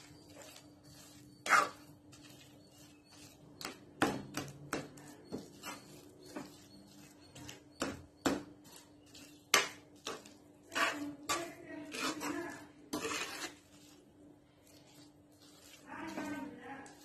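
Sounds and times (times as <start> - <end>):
spoon scraping pan: 0.0 - 17.0.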